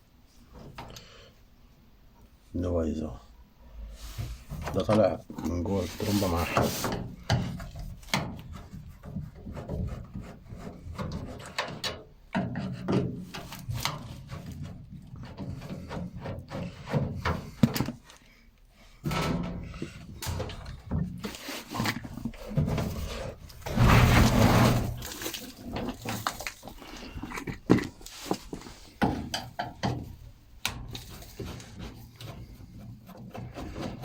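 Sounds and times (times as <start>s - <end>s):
plastic knocks and rubbing: 4.2s - 18.1s, 19.0s - 34.0s.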